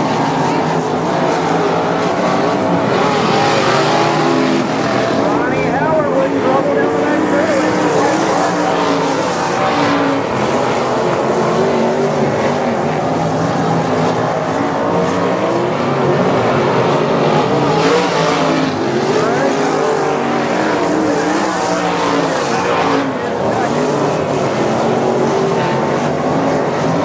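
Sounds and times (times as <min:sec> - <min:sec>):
race car engines racing: 0:00.0 - 0:27.0.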